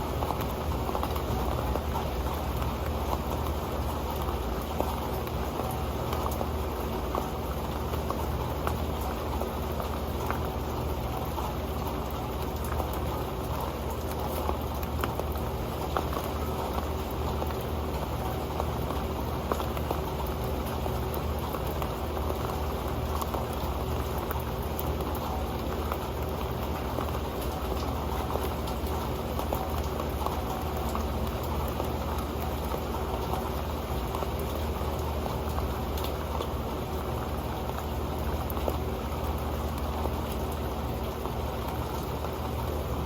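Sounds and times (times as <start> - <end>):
rain pattering on metal pan: 0.0 - 43.0.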